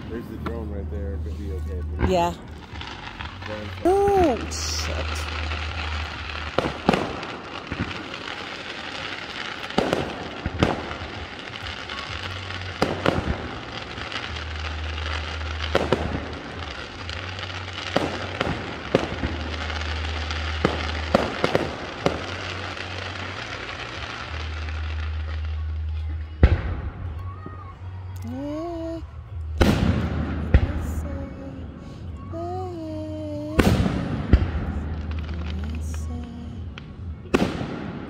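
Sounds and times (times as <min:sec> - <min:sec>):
firework crackling: 0:00.0 - 0:38.0.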